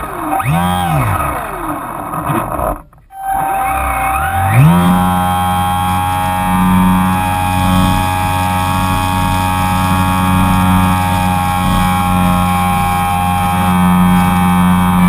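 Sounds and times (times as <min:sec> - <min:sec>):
electric motor and propeller whine: 0:00.1 - 0:01.8, 0:03.1 - 0:15.0.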